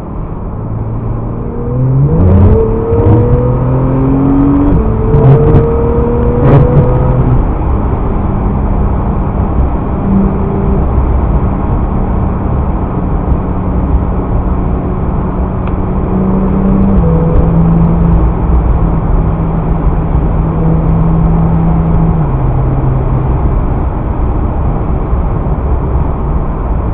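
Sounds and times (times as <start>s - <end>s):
low hum: 0.0s - 26.4s
road and engine rumble: 0.0s - 26.9s.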